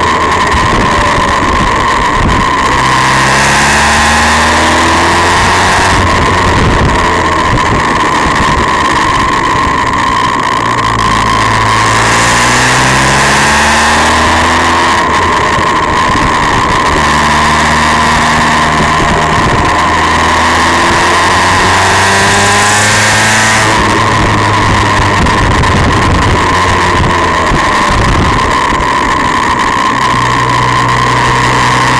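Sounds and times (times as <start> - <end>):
heavy wind rush: 0.0 - 31.9
motorcycle engine shifting gears: 0.0 - 31.9.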